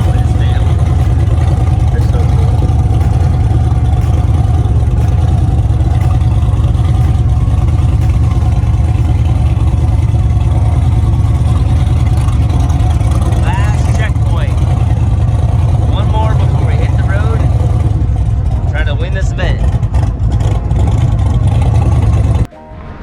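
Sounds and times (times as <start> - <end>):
car driving at highway speed: 0.0 - 23.0.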